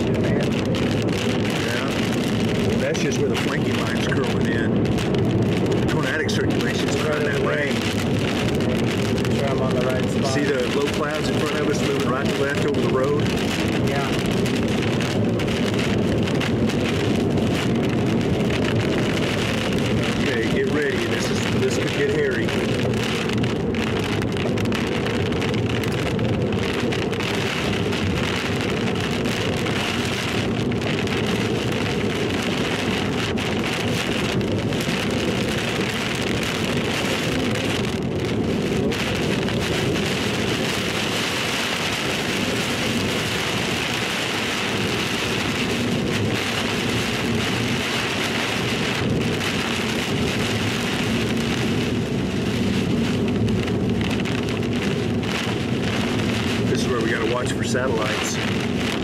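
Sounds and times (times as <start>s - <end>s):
heavy rain on car windshield: 0.0s - 59.0s
road and wind noise: 0.0s - 59.0s.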